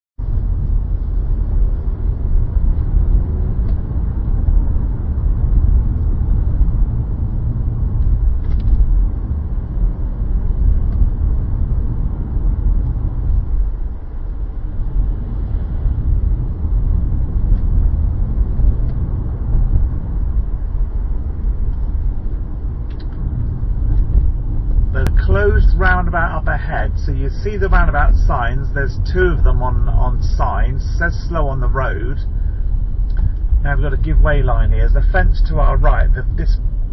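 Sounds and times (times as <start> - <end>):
car engine and road noise: 0.2 - 36.9.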